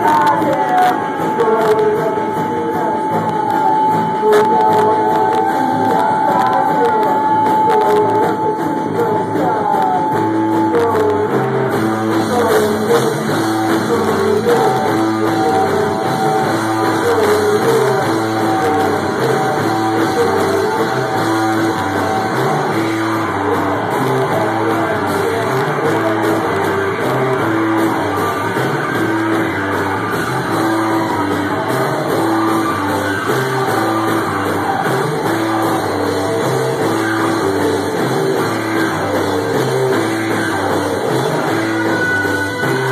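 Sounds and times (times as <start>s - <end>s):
drum kit: 0.0s - 42.9s
electric guitar riff: 0.0s - 42.9s
person singing: 0.0s - 42.9s.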